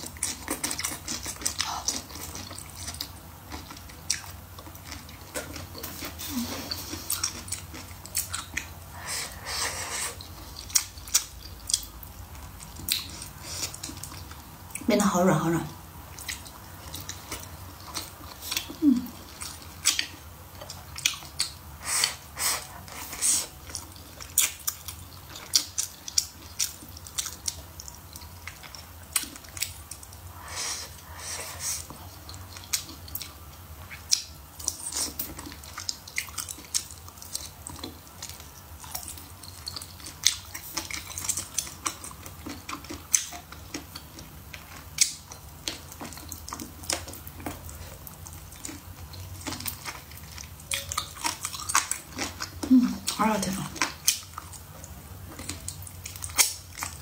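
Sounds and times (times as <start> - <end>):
close-miked wet chewing: 0.0 - 57.0.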